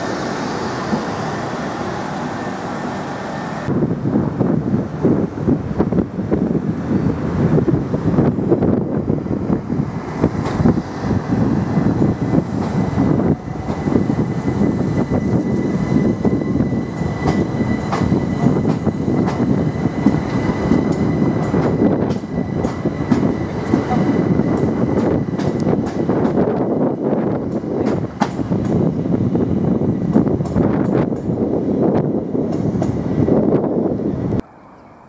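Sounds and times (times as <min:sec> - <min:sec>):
wheels rumbling on rail: 0:00.0 - 0:35.0.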